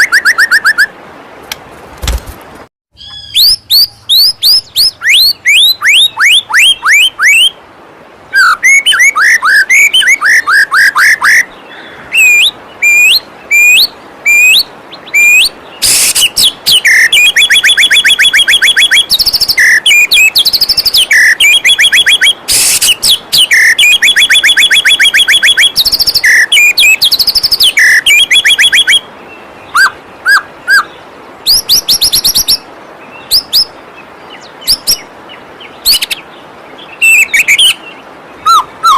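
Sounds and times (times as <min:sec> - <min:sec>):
bird singing whistles and trills: 0:00.0 - 0:00.9, 0:03.0 - 0:07.6, 0:08.3 - 0:38.9.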